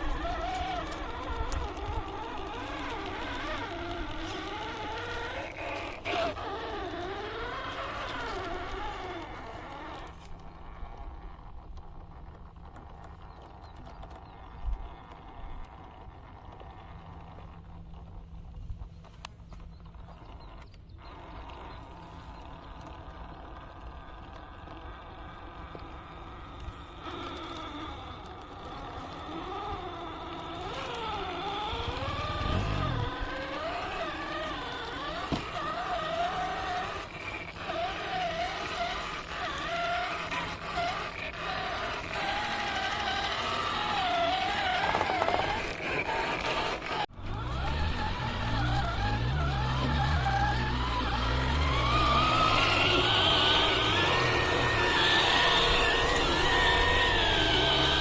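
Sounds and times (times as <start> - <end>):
electric motor whining: 0.0 - 58.0
toy car tyres clicking on ground: 0.0 - 58.0.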